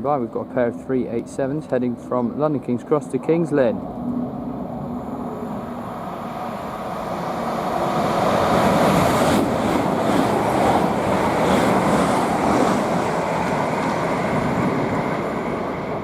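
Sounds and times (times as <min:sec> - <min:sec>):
electric trains passing: 0:00.0 - 0:16.0.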